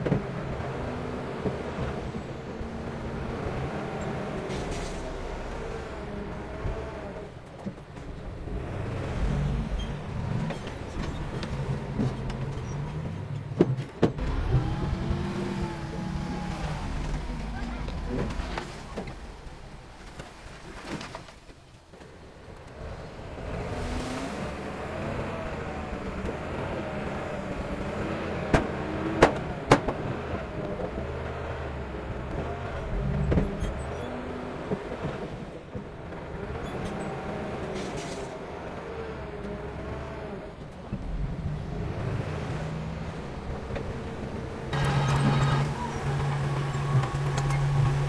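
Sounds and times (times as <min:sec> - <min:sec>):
diesel construction machinery running: 0:00.0 - 0:20.6, 0:22.0 - 0:48.0.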